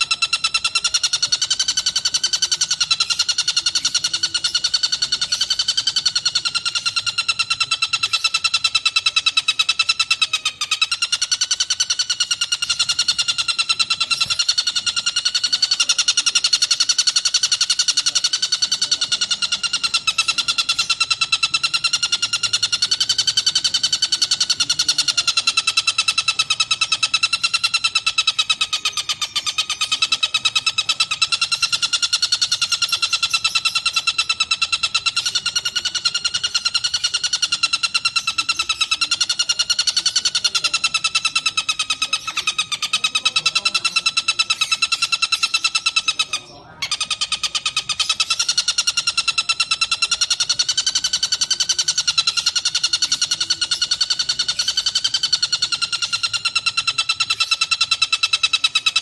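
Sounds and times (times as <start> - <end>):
kingfisher rapid trill: 0.0 - 59.0.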